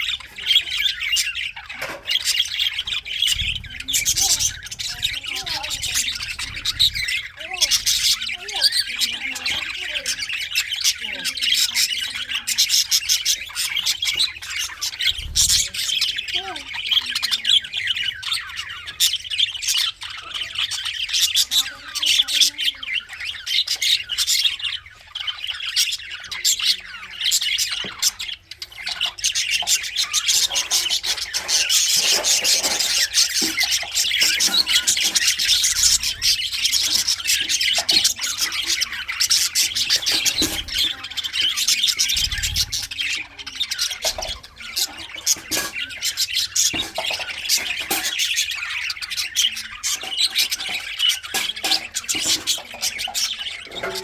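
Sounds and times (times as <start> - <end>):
budgerigars chirping and warbling: 0.0 - 54.0.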